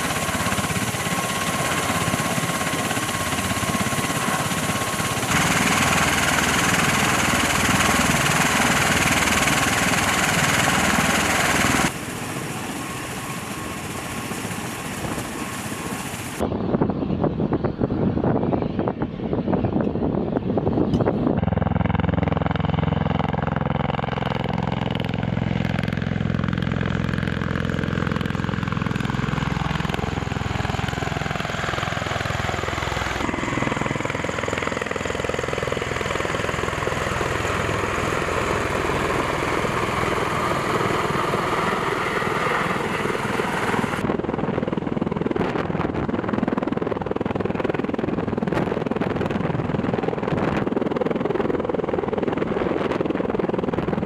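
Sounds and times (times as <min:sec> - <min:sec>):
aircraft rotor and turbine noise: 0:00.0 - 0:54.0
descending turbine whine: 0:00.0 - 0:54.0.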